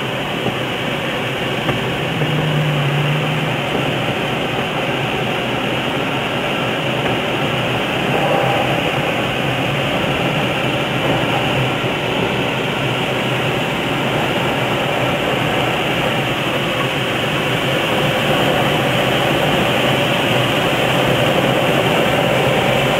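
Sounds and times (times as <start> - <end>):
airflow rushing: 0.0 - 18.4
faint steady hum: 0.0 - 22.9.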